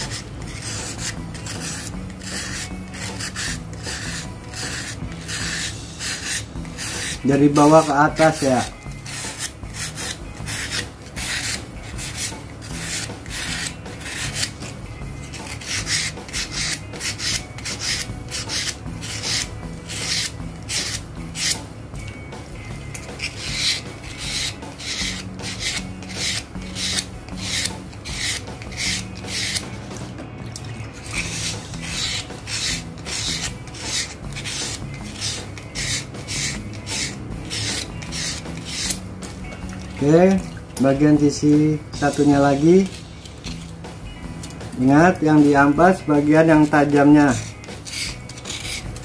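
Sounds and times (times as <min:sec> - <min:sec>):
sandpaper rasping on steel blade: 0:00.0 - 0:21.6, 0:22.9 - 0:30.0, 0:31.0 - 0:39.1, 0:42.0 - 0:43.8, 0:44.8 - 0:49.0.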